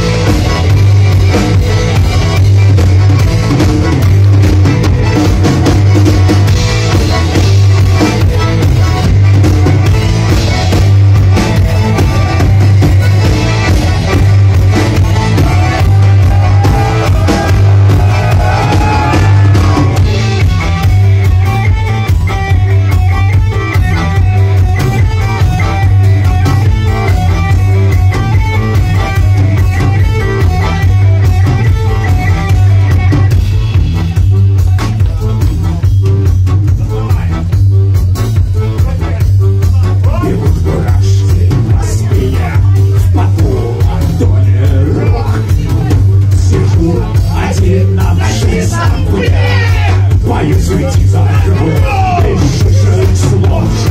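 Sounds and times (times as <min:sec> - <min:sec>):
band with accordion playing: 0:00.0 - 0:53.9
heavy steady bass: 0:00.0 - 0:53.9.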